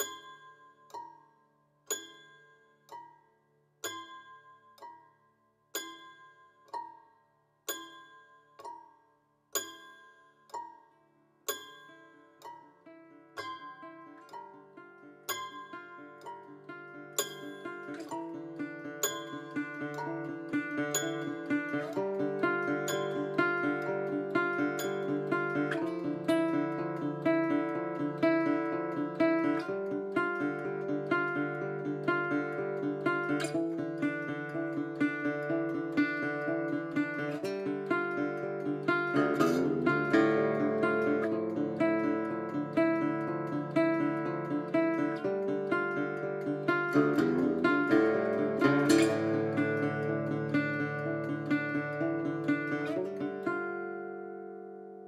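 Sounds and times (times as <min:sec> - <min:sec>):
acoustic guitar fingerpicking: 0:05.7 - 0:08.0, 0:10.5 - 0:55.0.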